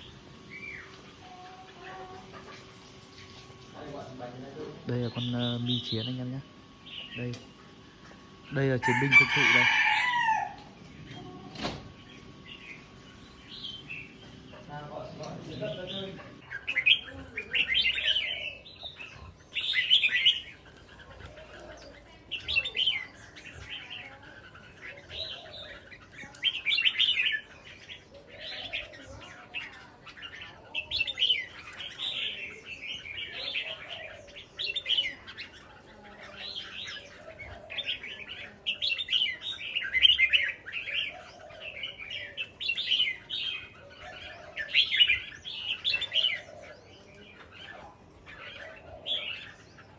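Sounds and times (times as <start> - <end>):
birds singing warbling phrases: 0.0 - 49.9.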